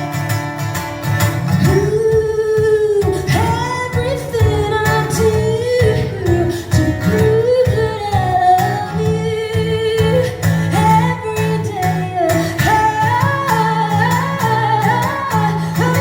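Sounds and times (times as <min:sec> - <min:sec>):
woman singing: 0:01.4 - 0:16.0.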